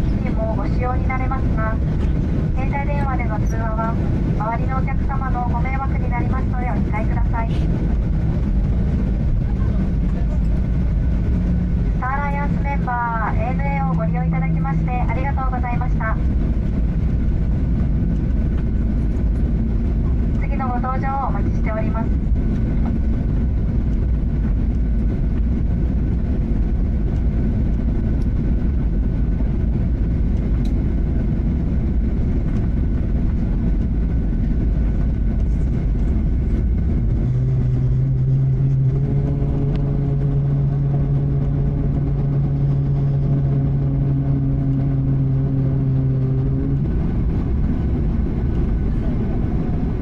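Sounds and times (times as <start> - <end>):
airplane cabin engine rumble: 0.0 - 50.0
low droning tone: 0.0 - 50.0.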